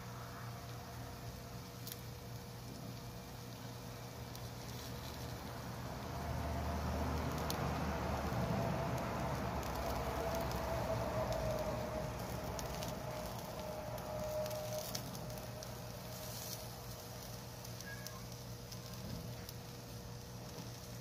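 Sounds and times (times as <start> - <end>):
meat sizzling on charcoal grill: 0.0 - 21.0.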